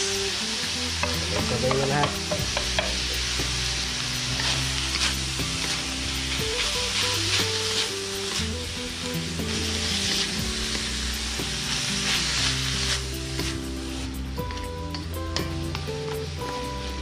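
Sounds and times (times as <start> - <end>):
background music: 0.0 - 17.0
food sizzling in oil: 0.0 - 17.0.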